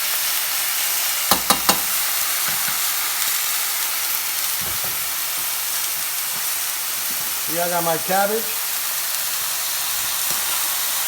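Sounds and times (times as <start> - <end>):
steaks sizzling in a frying pan: 0.0 - 11.0.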